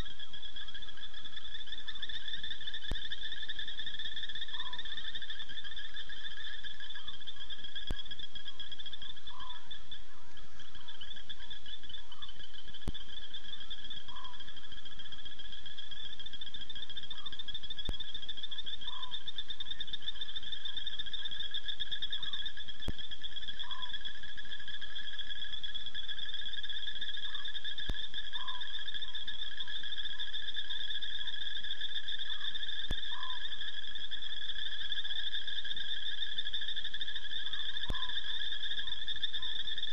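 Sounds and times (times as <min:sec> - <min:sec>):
insects and frogs trilling: 0:00.0 - 0:39.9
short repeated frog calls: 0:00.0 - 0:39.9.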